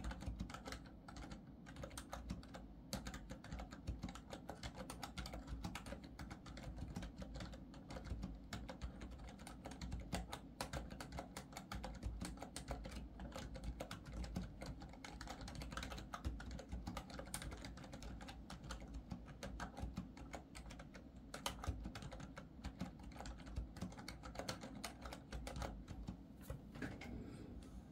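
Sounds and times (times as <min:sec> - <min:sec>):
fast keyboard typing: 0:00.0 - 0:27.1.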